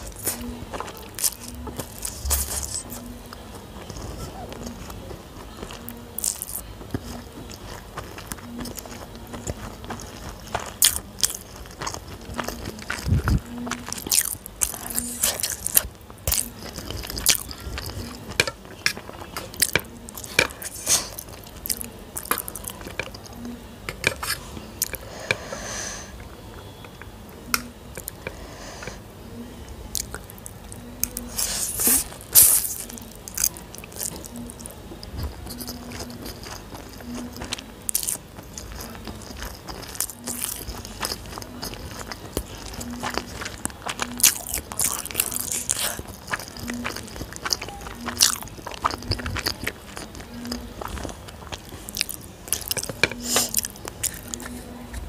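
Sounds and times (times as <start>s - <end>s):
crunching crisp shells: 0.0s - 29.1s, 29.8s - 55.0s
mouth sounds eating noodles: 0.0s - 55.0s.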